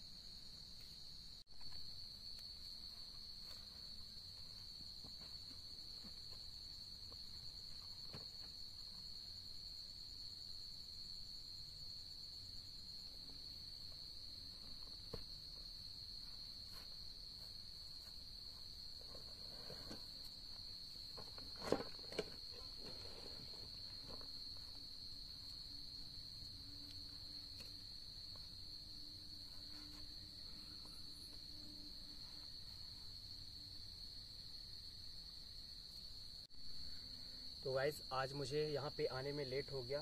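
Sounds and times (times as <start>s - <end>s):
night insects trilling: 0.0s - 40.0s.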